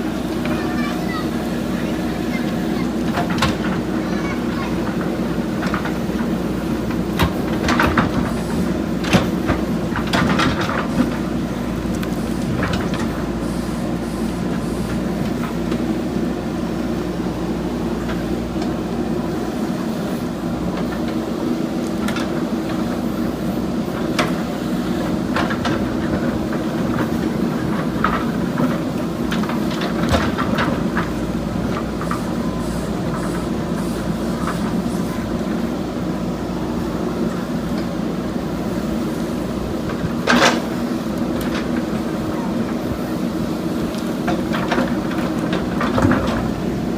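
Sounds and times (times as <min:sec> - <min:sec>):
backhoe diesel engine running: 0:00.0 - 0:46.9.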